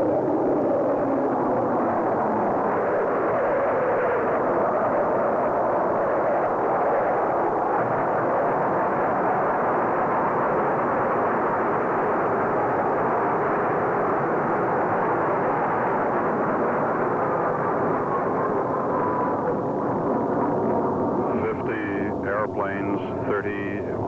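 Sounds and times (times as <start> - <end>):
jet fighters flying over: 0.0 - 24.0.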